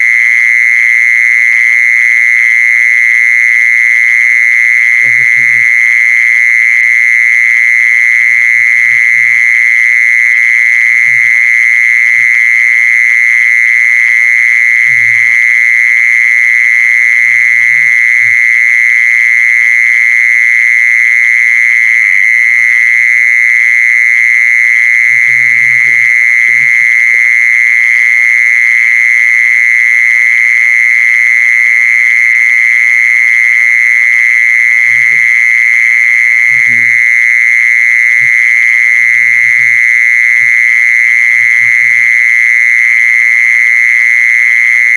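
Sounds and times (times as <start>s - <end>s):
insect high-pitched trill: 3.8s - 44.9s.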